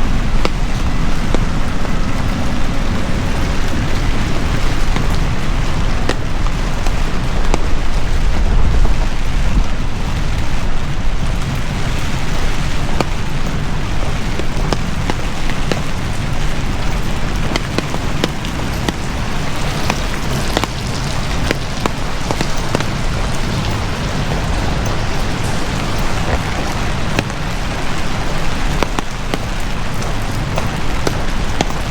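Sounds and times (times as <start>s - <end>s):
heavy rain falling: 0.0s - 31.9s
raindrops ticking: 0.0s - 31.9s.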